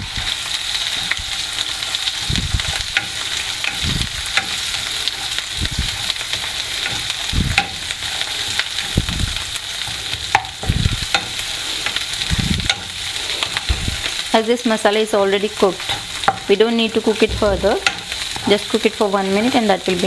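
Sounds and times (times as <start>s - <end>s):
masala sizzling in oil: 0.0s - 20.0s.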